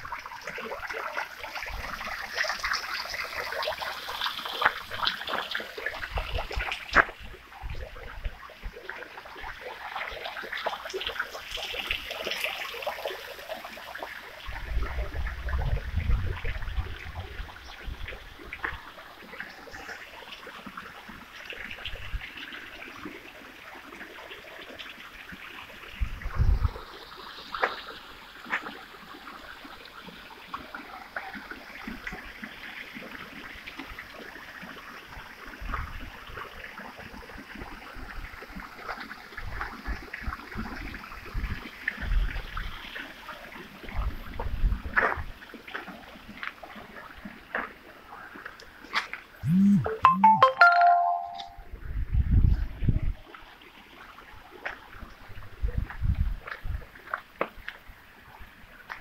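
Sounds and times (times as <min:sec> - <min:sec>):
fountain water splashing: 0:00.0 - 0:49.4.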